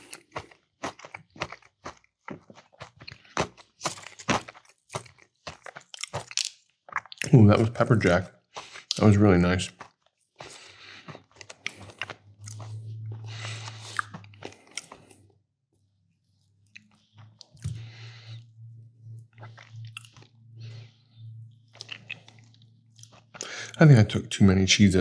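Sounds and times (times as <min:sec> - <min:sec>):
crunching and chewing food: 0:00.0 - 0:25.0.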